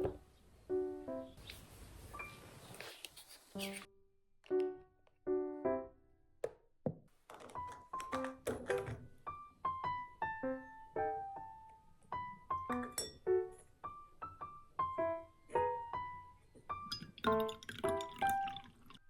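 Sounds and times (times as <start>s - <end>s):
gentle piano music: 0.0s - 1.4s, 2.0s - 2.8s, 4.5s - 6.2s, 7.4s - 19.0s.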